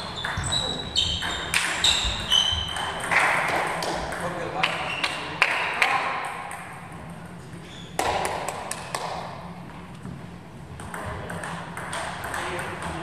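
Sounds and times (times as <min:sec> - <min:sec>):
table tennis ball bouncing: 0:00.0 - 0:07.3, 0:08.0 - 0:09.4, 0:10.7 - 0:13.0.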